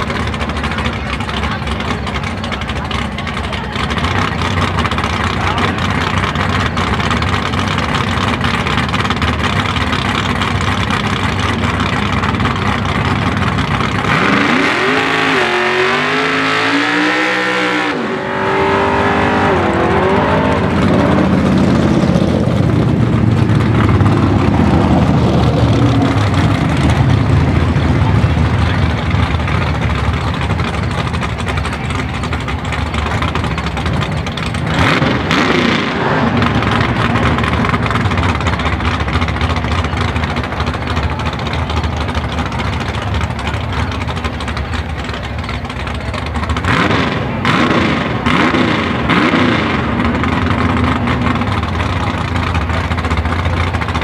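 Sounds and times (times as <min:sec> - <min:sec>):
drag car engine revving: 0:00.0 - 0:54.0
tires spinning: 0:00.0 - 0:54.0.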